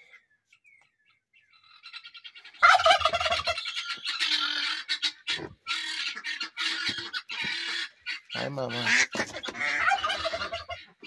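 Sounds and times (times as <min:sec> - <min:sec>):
turkey gobbling: 0:01.5 - 0:11.0.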